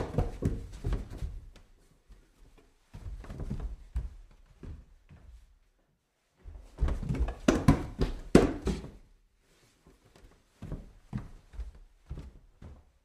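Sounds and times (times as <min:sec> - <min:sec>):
heavy footsteps on stairs: 0:00.0 - 0:05.6, 0:06.4 - 0:09.1, 0:10.1 - 0:13.0.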